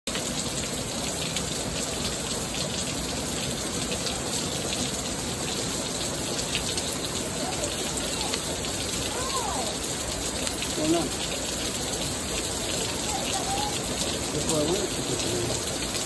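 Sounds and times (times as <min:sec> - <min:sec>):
heavy rain falling: 0:00.1 - 0:16.0
raindrop impacts: 0:00.1 - 0:16.0.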